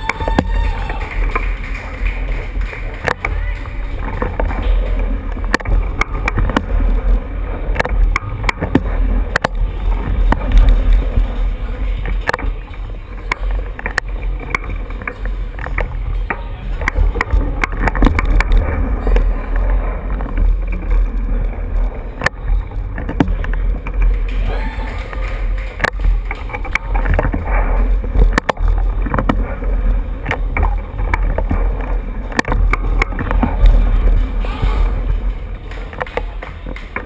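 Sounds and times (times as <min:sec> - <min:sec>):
bicycle rumbling and rattling: 0:00.0 - 0:37.0.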